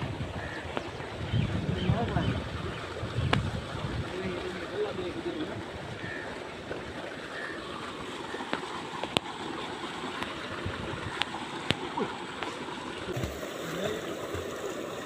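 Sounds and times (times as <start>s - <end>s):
water rushing: 0.0s - 15.0s
water splashes and slaps: 0.0s - 15.0s.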